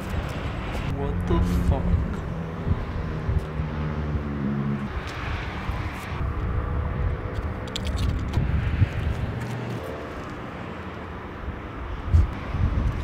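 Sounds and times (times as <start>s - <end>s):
engine rumble: 0.0s - 13.0s.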